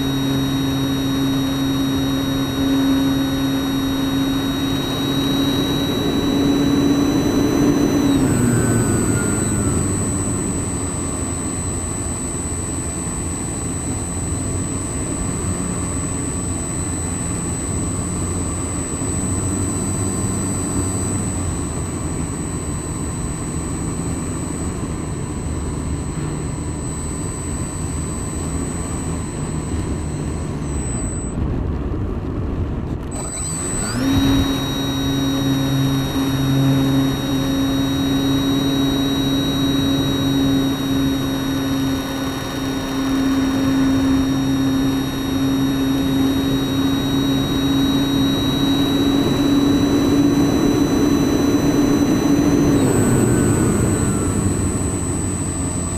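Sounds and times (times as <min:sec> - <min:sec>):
thin high steady tone: 0:00.0 - 0:31.4, 0:33.2 - 0:55.9
electric motor and propeller whine: 0:00.0 - 0:55.9.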